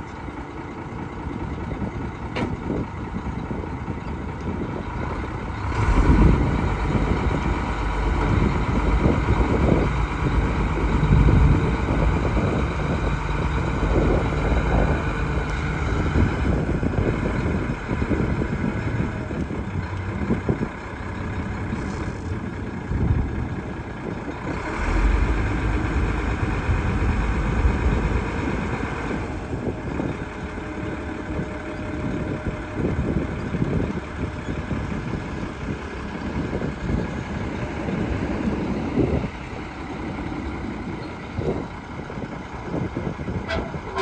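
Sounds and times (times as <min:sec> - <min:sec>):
diesel truck engine idling: 0:00.0 - 0:44.0.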